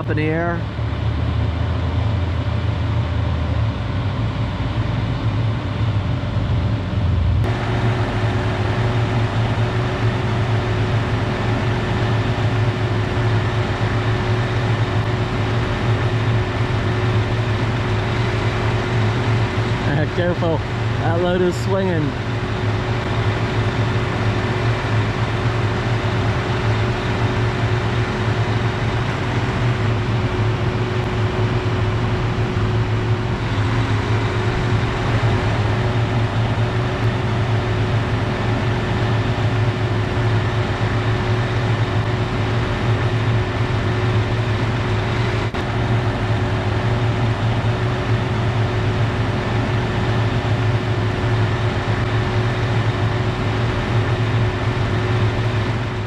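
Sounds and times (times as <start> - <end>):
truck engine droning: 0.0 - 56.0.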